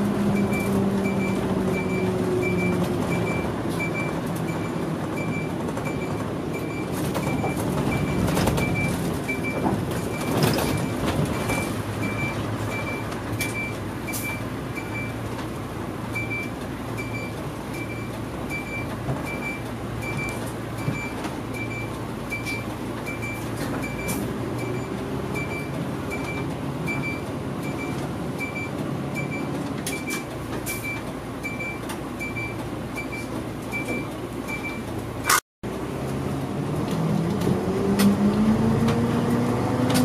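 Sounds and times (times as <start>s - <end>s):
bus engine rumble: 0.0s - 40.0s.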